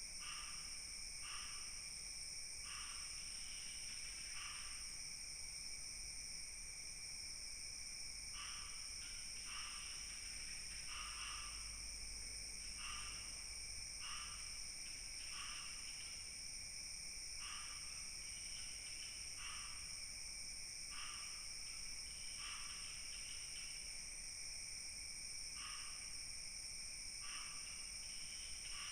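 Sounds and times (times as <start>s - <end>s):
insects trilling: 0.0s - 28.9s
raspy insect chirp: 0.1s - 28.9s.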